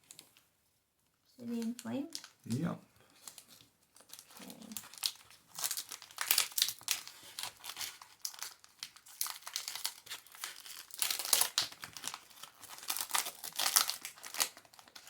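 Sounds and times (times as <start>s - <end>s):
foil wrapper crinkling and tearing: 1.5s - 2.4s, 3.2s - 15.0s.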